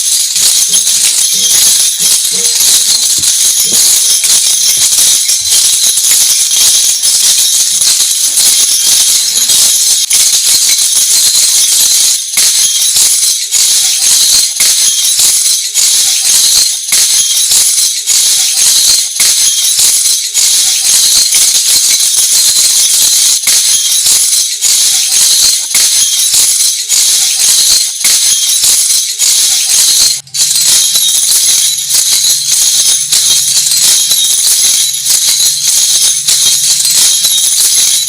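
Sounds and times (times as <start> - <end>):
metal discs jangling: 0.0 - 38.0.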